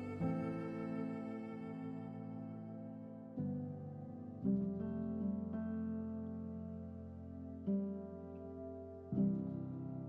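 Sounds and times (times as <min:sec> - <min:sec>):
soft instrumental chord: 0:00.0 - 0:10.0.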